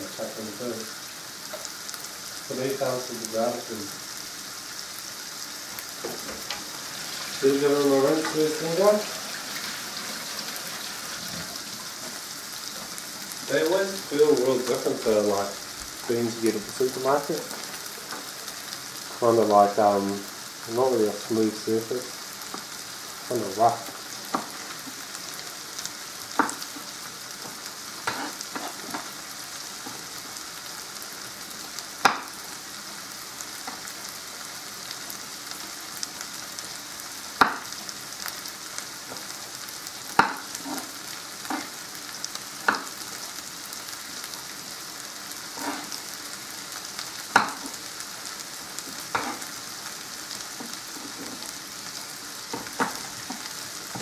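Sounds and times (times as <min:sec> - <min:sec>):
rice sizzling in a pan: 0:00.0 - 0:54.0.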